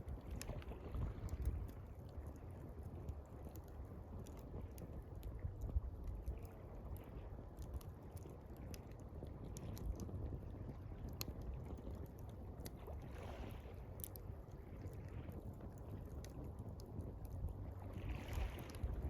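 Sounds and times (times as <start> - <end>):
campfire crackling and popping: 0.0 - 19.0
water lapping: 0.0 - 19.0.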